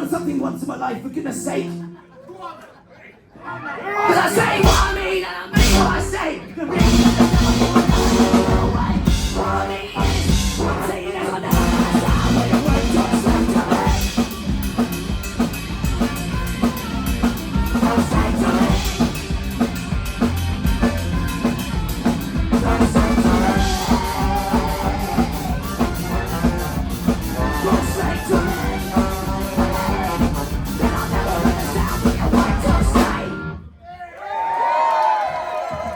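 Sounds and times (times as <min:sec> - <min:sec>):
live ska band playing: 0:04.6 - 0:33.7.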